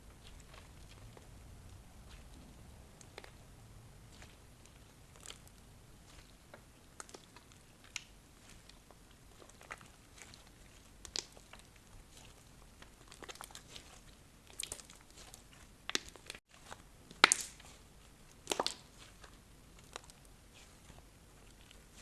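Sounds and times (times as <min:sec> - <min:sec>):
slime crackling and popping: 0:00.0 - 0:03.4, 0:04.1 - 0:22.0.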